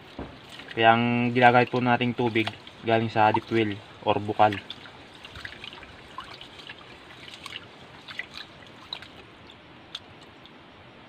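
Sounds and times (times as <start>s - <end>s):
rice washing in metal pot: 0.0s - 9.3s
small clicks and splashes: 0.0s - 10.6s.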